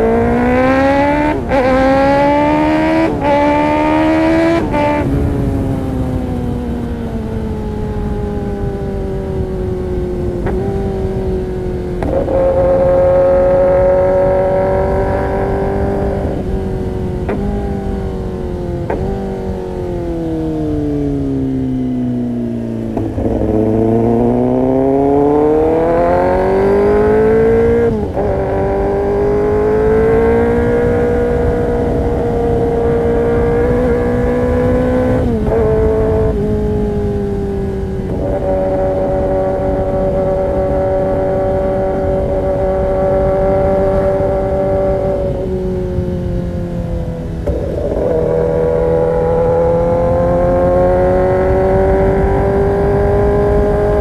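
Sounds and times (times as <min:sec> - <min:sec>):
motorcycle engine through gear changes: 0:00.0 - 0:54.0.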